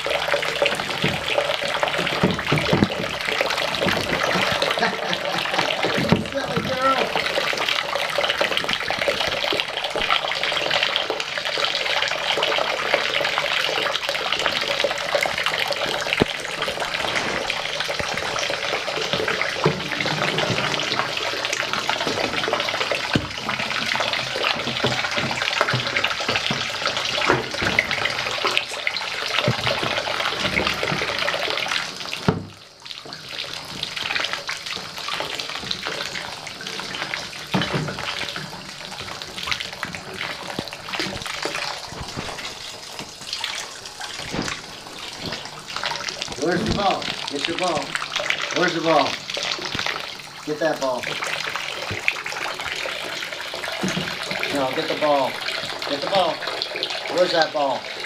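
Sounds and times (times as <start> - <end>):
water running from a tap into a tub: 0.0 - 58.0.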